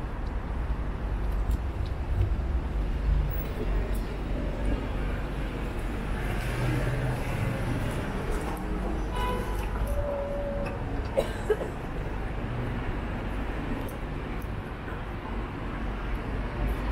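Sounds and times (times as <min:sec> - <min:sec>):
traffic rumble: 0:00.0 - 0:16.9.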